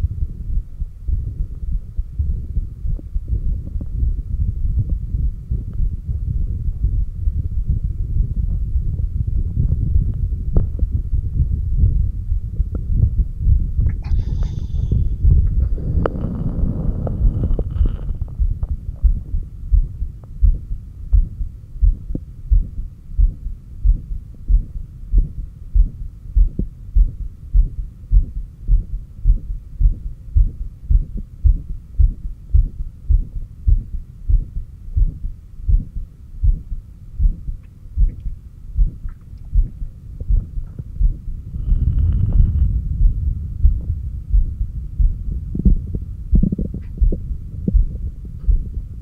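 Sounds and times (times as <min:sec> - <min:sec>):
heartbeat through stethoscope: 0:00.0 - 0:49.0.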